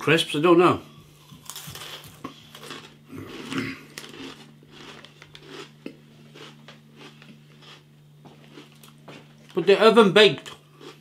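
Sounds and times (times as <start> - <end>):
person chewing crunchy snacks: 1.1 - 9.7, 10.4 - 11.0.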